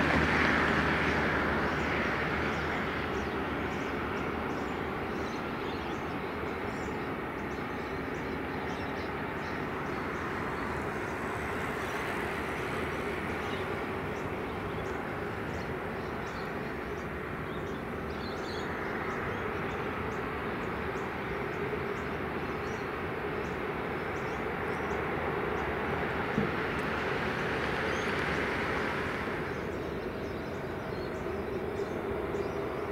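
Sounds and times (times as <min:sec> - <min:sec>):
jet engines rumbling: 0:00.0 - 0:32.9.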